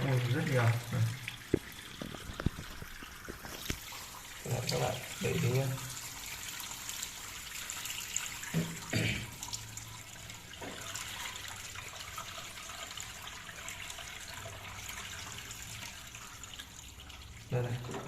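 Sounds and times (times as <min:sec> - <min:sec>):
water trickling from a drain filter: 0:00.0 - 0:18.0.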